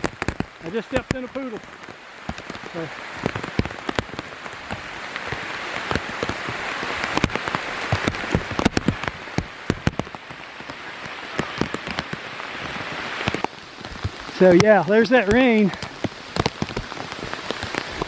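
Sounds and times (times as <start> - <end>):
heavy rain hissing: 0.0 - 18.0
raindrops tapping on plastic bag: 0.0 - 18.0.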